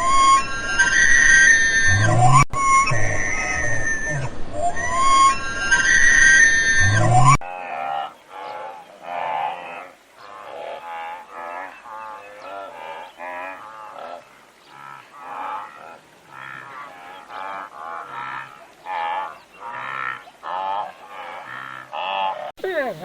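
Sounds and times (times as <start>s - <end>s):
animal quavering cries: 0.0s - 22.5s.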